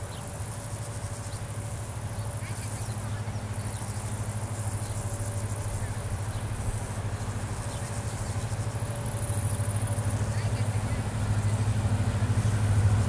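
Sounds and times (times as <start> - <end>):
diesel locomotive engine drone: 0.0 - 13.0
insects buzzing: 0.0 - 13.0.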